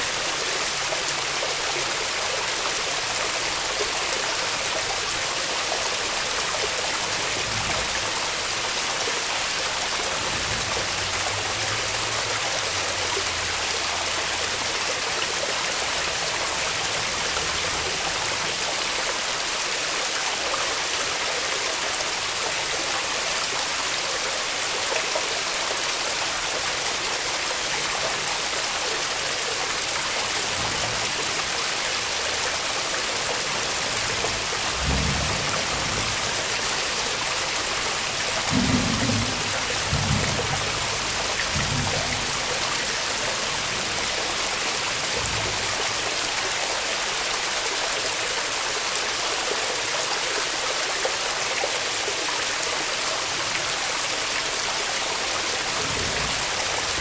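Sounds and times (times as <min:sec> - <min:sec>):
creek waterfall rushing: 0:00.0 - 0:57.0.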